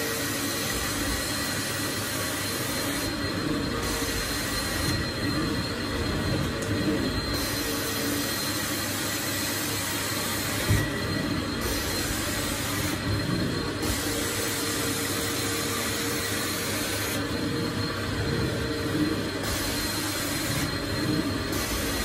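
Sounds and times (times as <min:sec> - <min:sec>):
vacuum motors whining: 0:00.0 - 0:22.0.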